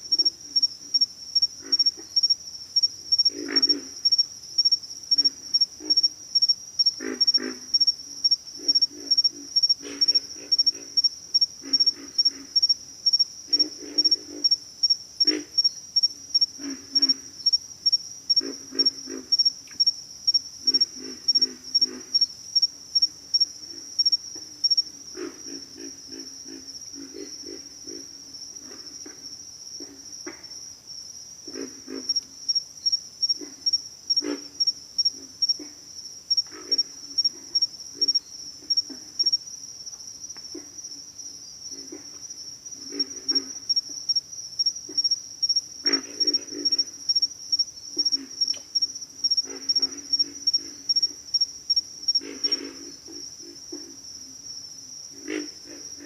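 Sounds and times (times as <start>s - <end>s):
frogs grunting: 0.1s - 30.6s, 31.4s - 39.4s, 40.3s - 56.0s
high-pitched insect trill: 0.1s - 31.3s, 32.0s - 56.0s.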